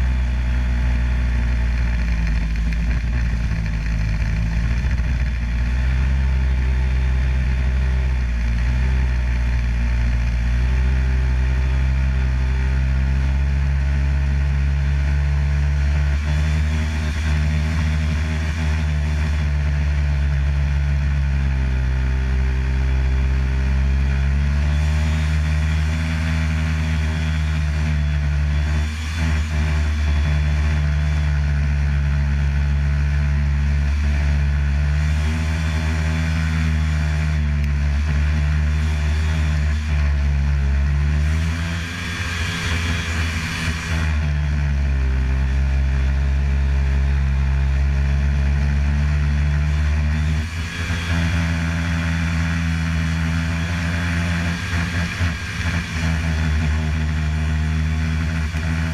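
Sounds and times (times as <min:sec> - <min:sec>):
snowmobile engine running: 0:00.0 - 0:58.9.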